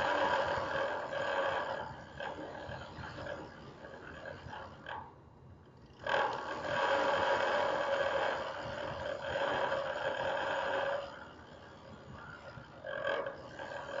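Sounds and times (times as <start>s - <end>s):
loud steady groaning tone: 0.0s - 14.0s.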